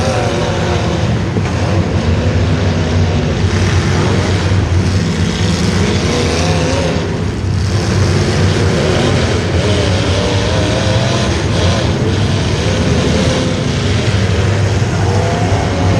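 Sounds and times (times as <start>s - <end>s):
racing engines revving: 0.0s - 15.9s.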